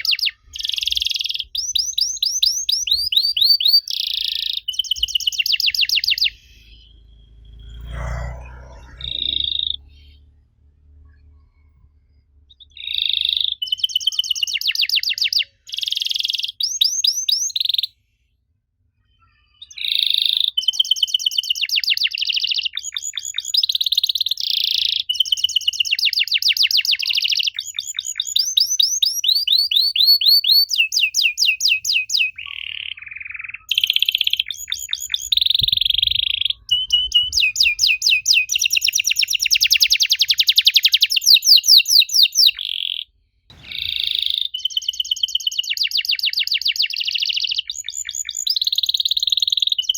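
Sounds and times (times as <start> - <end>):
canary singing trills: 0.0 - 10.5, 11.2 - 18.0, 19.0 - 49.9.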